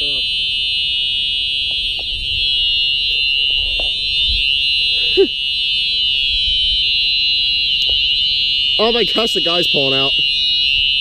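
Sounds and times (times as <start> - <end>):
fire alarm high-pitched tone: 0.0 - 11.0.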